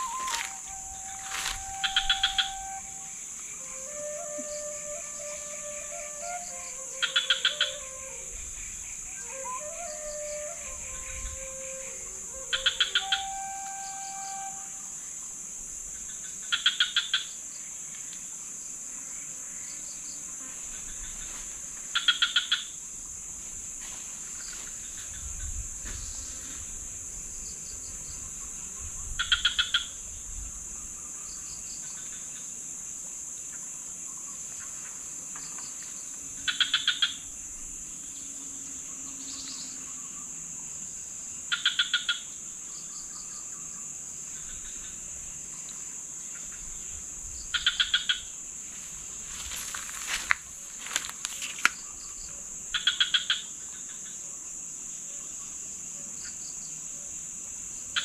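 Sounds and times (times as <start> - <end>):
forest insects droning: 0.0 - 58.0.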